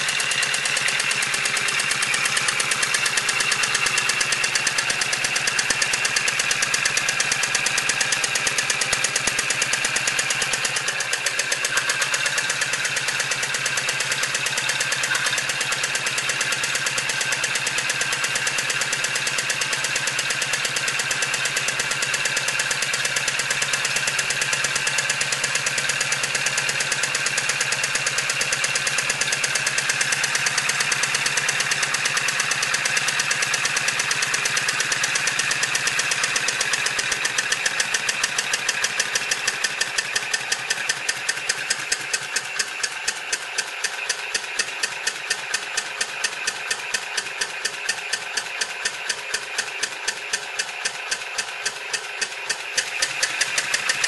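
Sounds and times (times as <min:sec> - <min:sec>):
model steam engine chuffing: 0:00.0 - 0:54.0.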